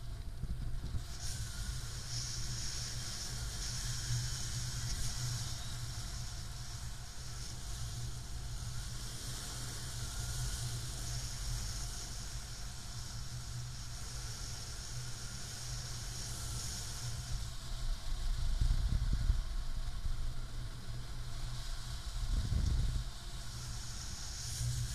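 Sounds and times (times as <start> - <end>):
wind noise on microphone: 0.0 - 24.9.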